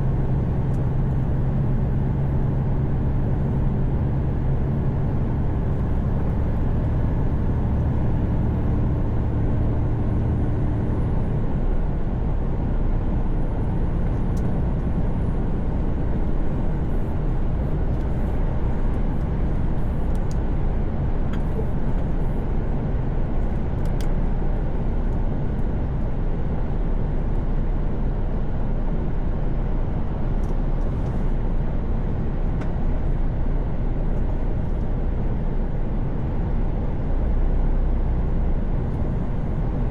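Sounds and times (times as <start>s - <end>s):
engine hum: 0.0s - 39.9s
road and tyre rumble: 0.0s - 39.9s.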